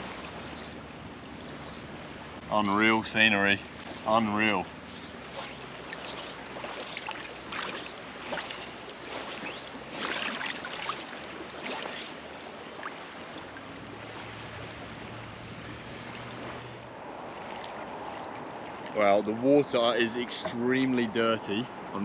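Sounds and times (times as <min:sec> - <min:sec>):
water splashing around person wading: 0:00.0 - 0:21.0.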